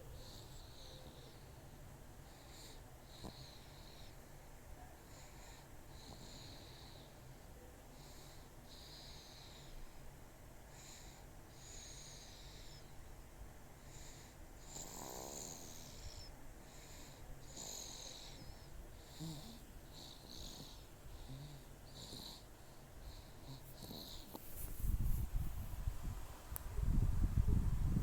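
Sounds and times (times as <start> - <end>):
baby snoring softly: 0.0 - 10.0, 10.6 - 13.0, 13.8 - 25.2.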